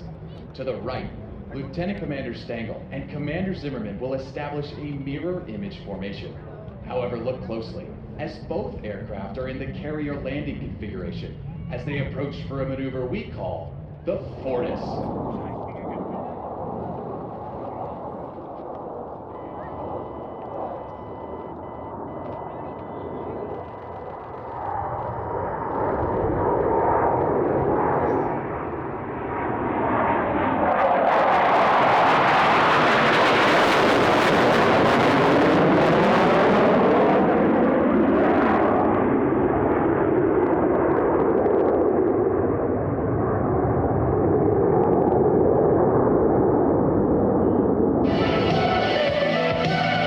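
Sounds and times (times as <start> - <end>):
jet engines passing low: 0.0 - 50.0.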